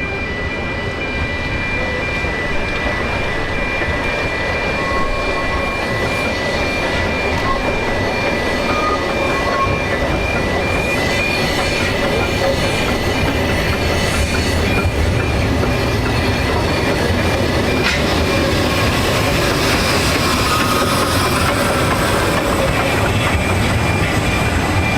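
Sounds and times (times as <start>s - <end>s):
high wheel squeal: 0.0s - 24.9s
train wheels rumbling on track: 0.0s - 24.9s.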